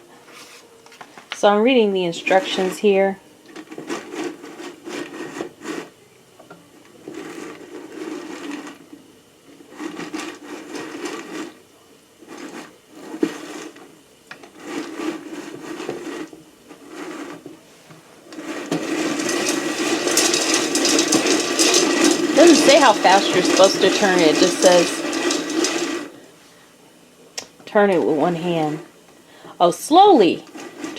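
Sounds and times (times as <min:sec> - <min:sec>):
popcorn popper crank grinding: 0:02.1 - 0:05.9, 0:06.8 - 0:11.6, 0:12.2 - 0:17.6, 0:18.2 - 0:26.3, 0:27.7 - 0:30.9.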